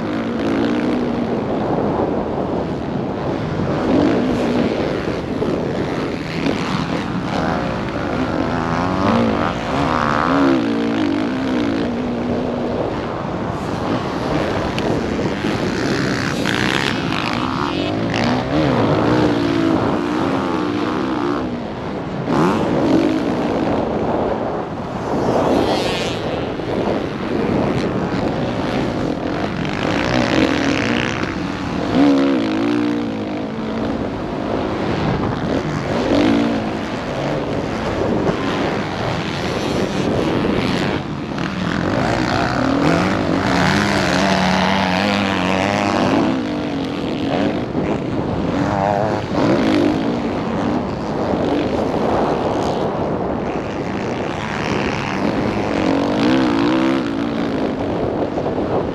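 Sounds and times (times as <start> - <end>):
dirt bike engine revving: 0.0 - 58.3.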